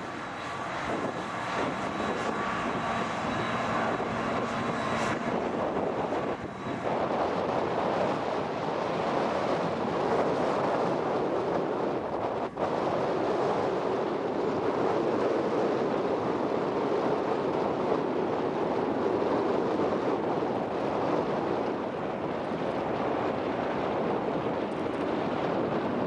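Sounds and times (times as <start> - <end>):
distant highway traffic rumble: 0.0 - 26.0.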